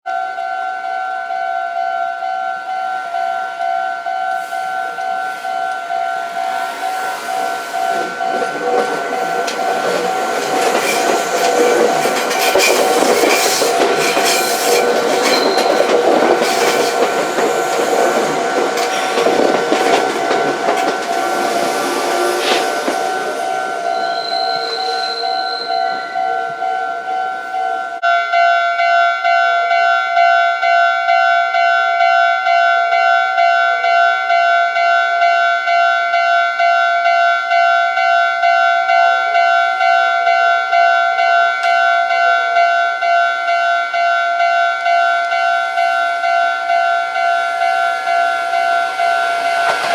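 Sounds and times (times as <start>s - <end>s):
level crossing bell clanging: 0.1s - 49.9s
train rattling over crossing: 2.2s - 28.0s, 33.0s - 49.9s.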